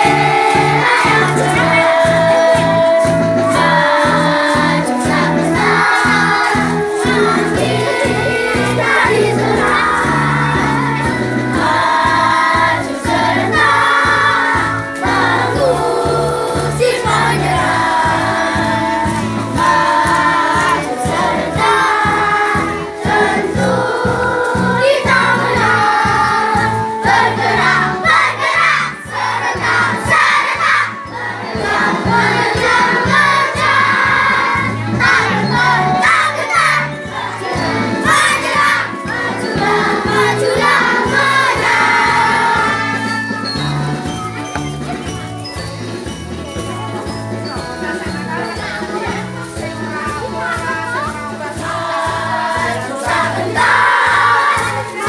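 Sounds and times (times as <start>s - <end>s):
children singing together: 0.0s - 44.6s, 47.9s - 55.0s.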